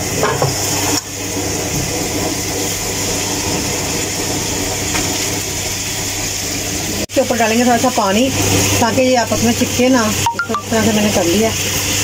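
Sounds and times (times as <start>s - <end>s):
hot water pouring and splashing: 0.0s - 12.0s.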